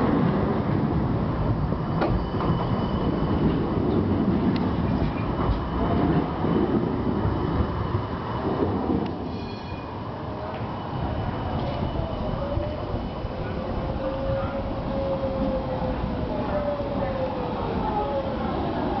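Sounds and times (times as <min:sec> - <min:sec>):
tram wheels rumbling on track: 0:00.0 - 0:19.0.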